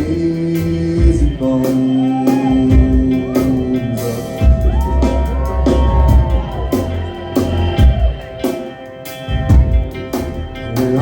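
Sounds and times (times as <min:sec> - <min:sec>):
pitch-bending tones: 0:01.8 - 0:11.0.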